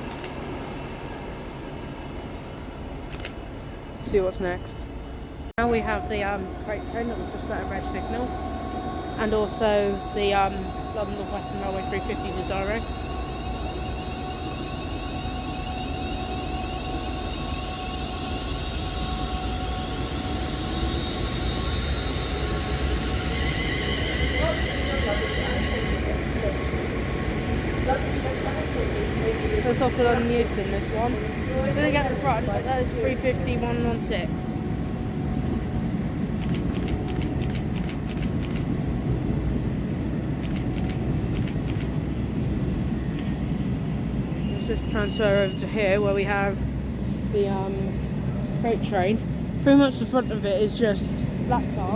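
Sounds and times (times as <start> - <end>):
electric train rumbling: 0.0 - 51.9
steady train tones: 0.0 - 51.9.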